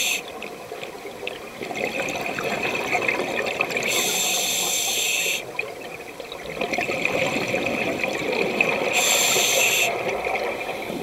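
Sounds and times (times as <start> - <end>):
exhaled bubbles underwater: 0.3 - 4.0, 5.5 - 11.0.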